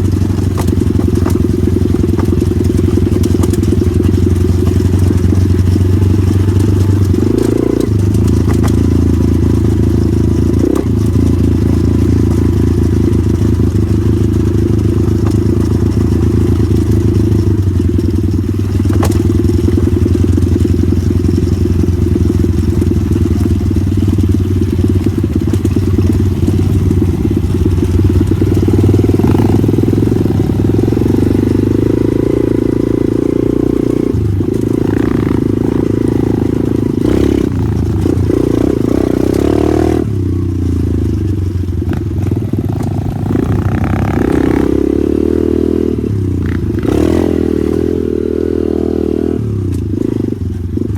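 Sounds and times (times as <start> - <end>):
small motorcycle engine revving: 0.0 - 50.9.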